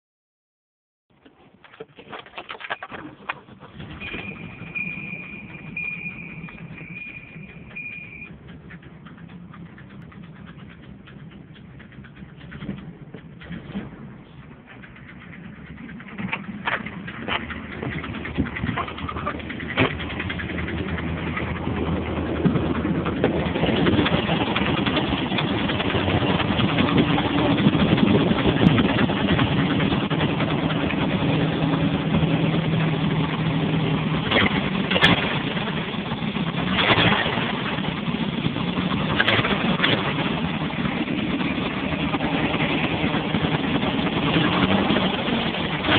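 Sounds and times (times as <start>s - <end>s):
car engine running: 1.3s - 45.9s
sharp engine noises: 1.6s - 45.9s.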